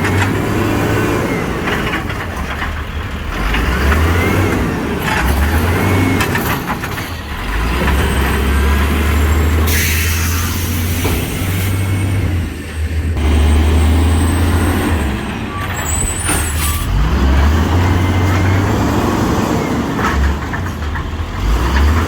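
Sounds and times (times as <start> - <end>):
garbage truck engine revving: 0.0 - 22.0.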